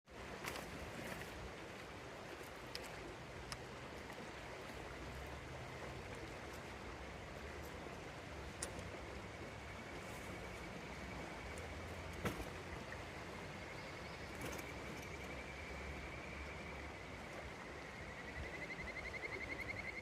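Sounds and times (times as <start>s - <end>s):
river water flowing: 0.1s - 20.0s.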